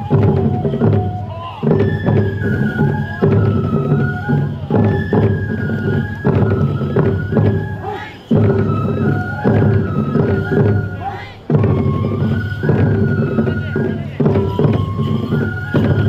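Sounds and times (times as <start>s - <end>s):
bamboo flute melody: 0.0s - 16.0s
taiko drum beats: 0.0s - 16.0s.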